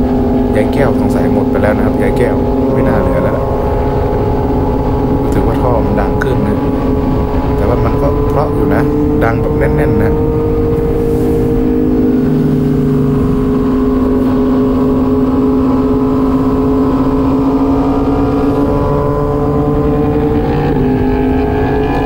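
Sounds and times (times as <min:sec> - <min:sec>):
motorcycle engine cruising: 0:00.0 - 0:22.0
wind rush: 0:00.0 - 0:22.0.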